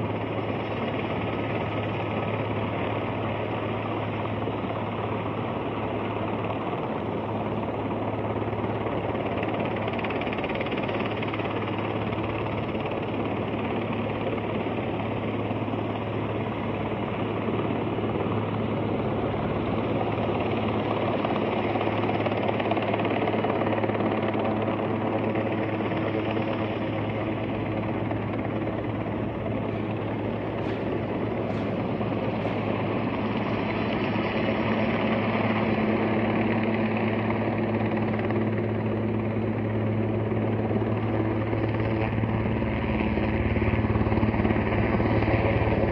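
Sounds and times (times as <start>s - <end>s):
helicopter hovering: 0.0s - 45.9s.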